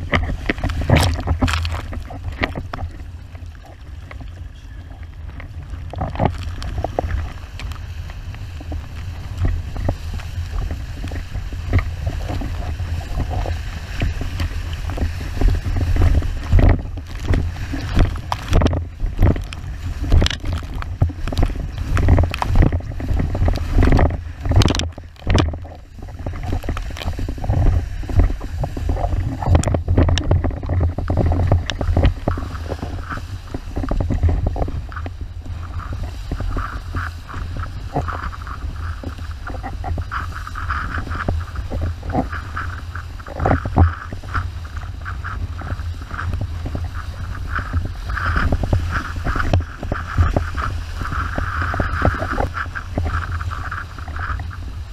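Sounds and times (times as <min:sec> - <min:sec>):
board slapping on waves: 0:00.0 - 0:54.9
wind rumble on microphone: 0:00.0 - 0:54.9.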